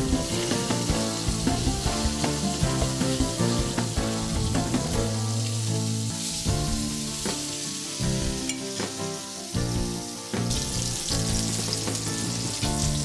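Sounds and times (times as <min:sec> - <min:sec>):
background music: 0:00.0 - 0:13.0
fish frying in oil: 0:00.0 - 0:13.0.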